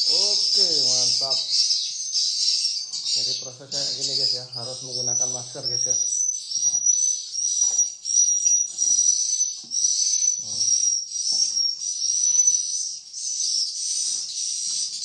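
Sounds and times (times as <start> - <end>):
high thin bird chirps: 0.0 - 15.0.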